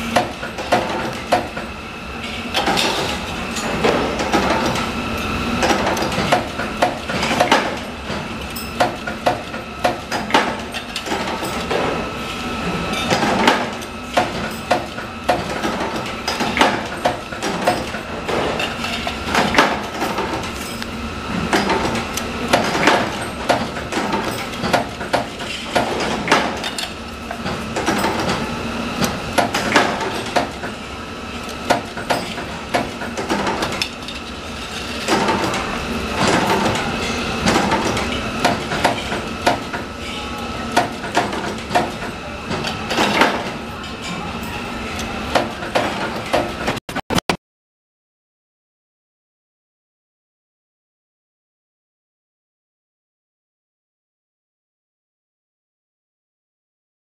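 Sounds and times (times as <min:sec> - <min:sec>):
machine hum with high whine: 0:00.0 - 0:47.3.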